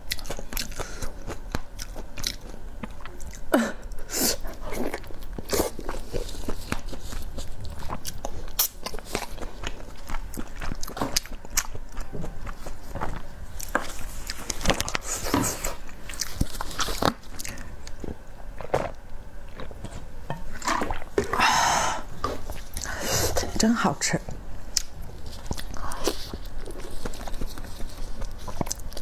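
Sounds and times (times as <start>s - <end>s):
person chewing food: 0.0s - 23.6s, 24.3s - 29.0s.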